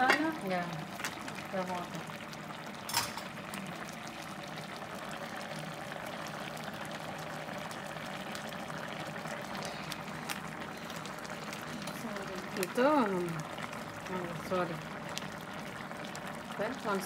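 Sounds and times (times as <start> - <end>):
curry bubbling in pot: 0.0 - 17.0.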